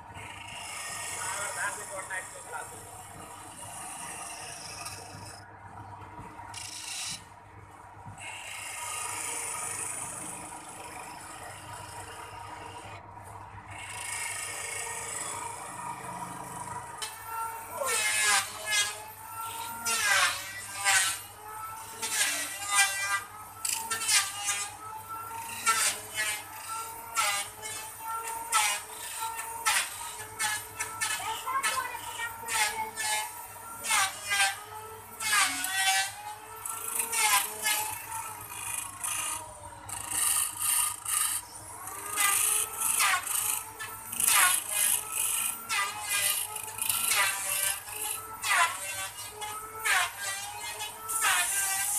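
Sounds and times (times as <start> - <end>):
lathe chisel scraping wood: 0.2 - 5.4, 6.5 - 7.3, 8.2 - 13.0, 13.7 - 51.9.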